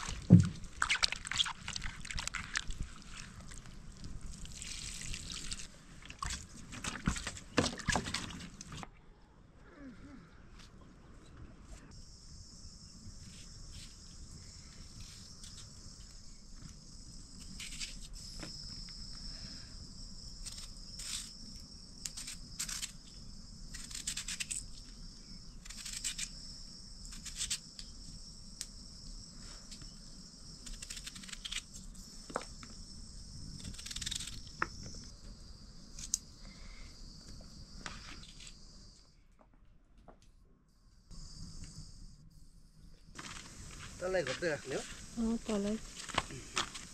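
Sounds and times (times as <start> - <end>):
insects chorus: 0.0 - 39.2, 40.7 - 46.9.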